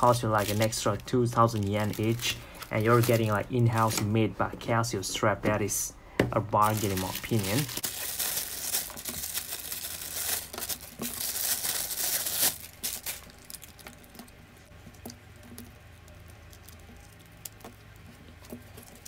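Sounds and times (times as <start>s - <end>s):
wrapping crinkling and tearing: 0.0s - 4.1s, 6.6s - 14.4s, 15.0s - 19.0s.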